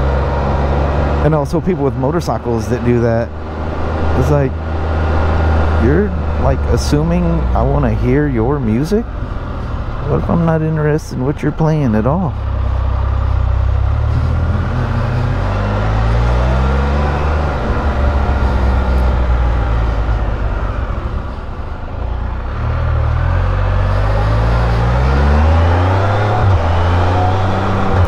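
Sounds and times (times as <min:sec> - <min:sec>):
three-cylinder engine accelerating: 0:00.0 - 0:28.0
wind and road noise: 0:00.0 - 0:28.0.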